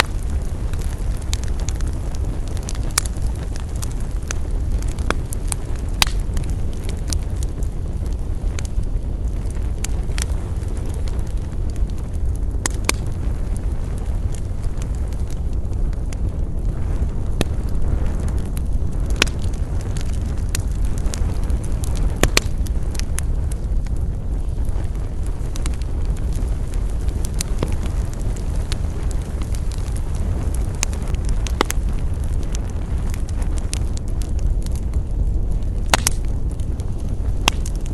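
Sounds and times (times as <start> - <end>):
burning wood crackling and popping: 0.0 - 37.9
campfire flames rumbling: 0.0 - 37.9.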